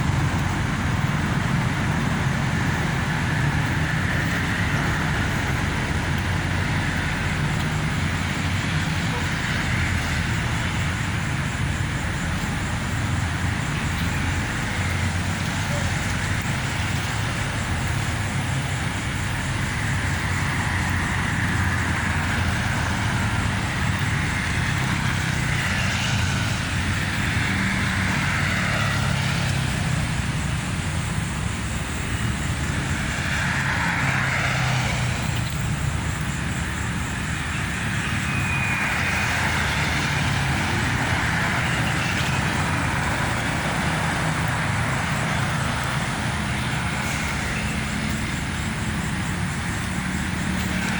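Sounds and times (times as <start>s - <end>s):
road traffic rumble: 0.0s - 50.9s
vehicles passing: 0.0s - 50.9s.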